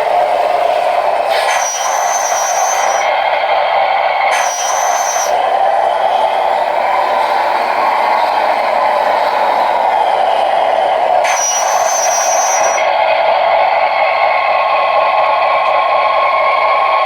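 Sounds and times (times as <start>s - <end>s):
high hissing whine: 0.0s - 17.0s
model truck mechanical drone: 0.0s - 17.0s.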